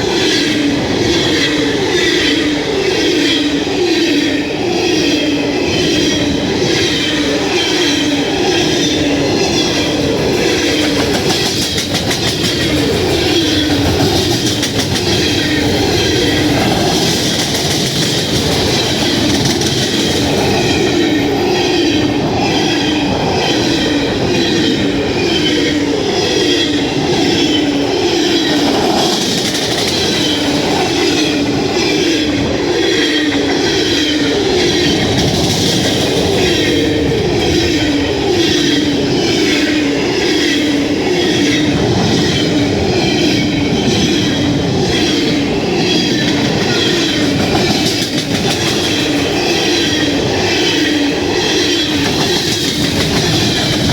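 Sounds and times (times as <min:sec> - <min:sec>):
train wheels clicking over rail joints: 0:00.0 - 0:53.9.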